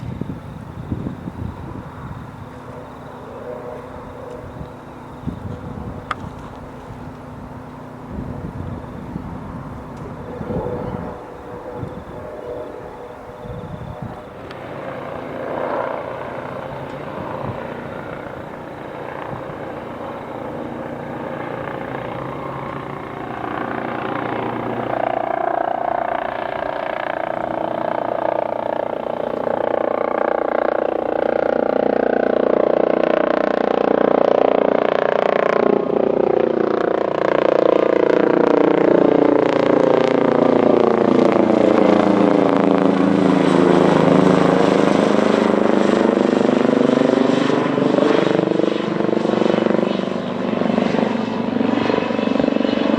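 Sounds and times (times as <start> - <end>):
helicopter rotor and turbine whine: 0.0 - 52.9.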